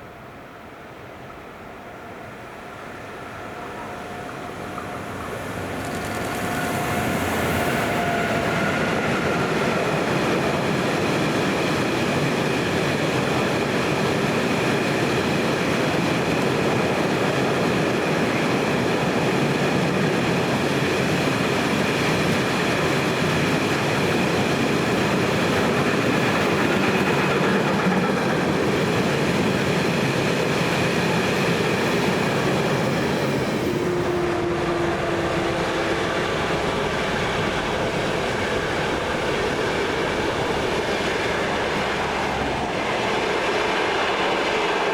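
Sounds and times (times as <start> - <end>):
train rumbling past: 0.9 - 44.9.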